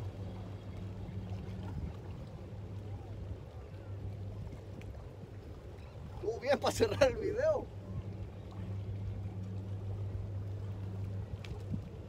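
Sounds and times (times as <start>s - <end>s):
steady low drone: 0.0s - 6.2s, 7.6s - 12.0s.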